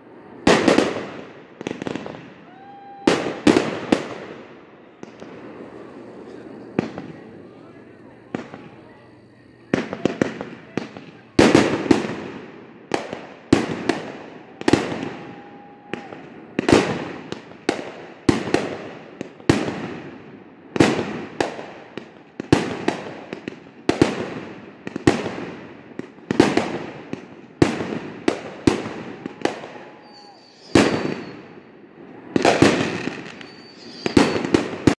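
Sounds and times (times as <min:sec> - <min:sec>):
fireworks bangs echoing: 0:00.0 - 0:35.0.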